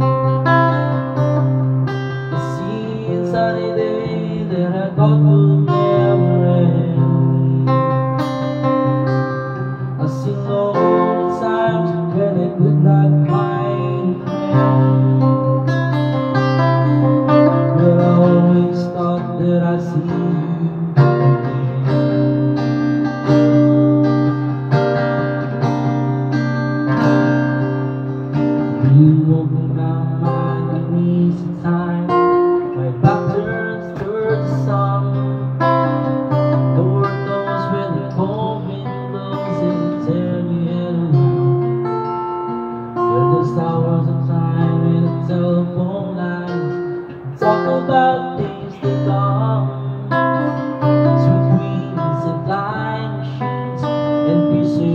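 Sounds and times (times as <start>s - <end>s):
man singing: 0.0s - 22.6s, 28.6s - 42.2s, 43.0s - 54.9s
acoustic guitar: 0.0s - 54.9s.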